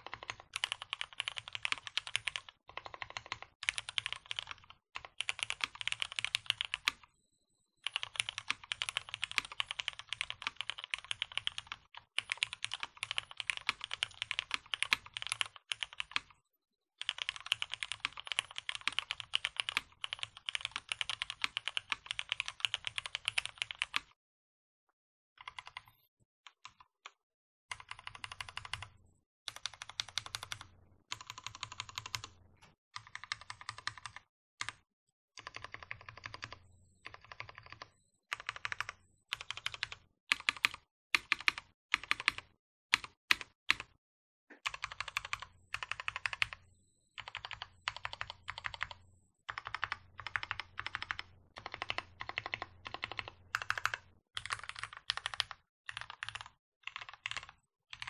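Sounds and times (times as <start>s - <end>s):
mechanical keyboard typing: 0.0s - 7.1s, 7.8s - 16.4s, 17.0s - 24.2s, 25.4s - 25.8s, 26.5s - 44.0s, 44.6s - 58.0s.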